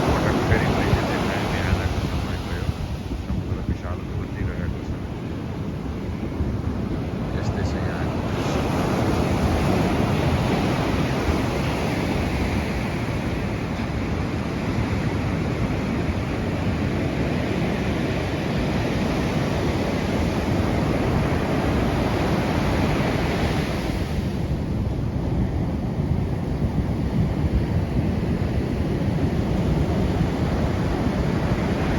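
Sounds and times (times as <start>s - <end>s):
surf breaking on beach: 0.0s - 24.8s, 25.4s - 31.9s
wind buffeting microphone: 0.0s - 31.9s.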